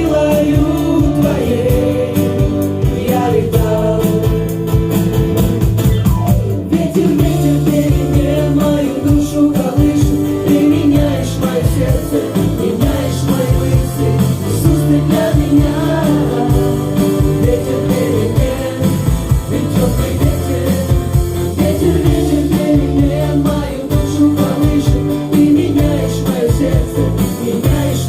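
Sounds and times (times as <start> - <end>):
person singing: 0.0 - 4.7, 6.6 - 28.0
band playing: 0.0 - 28.0.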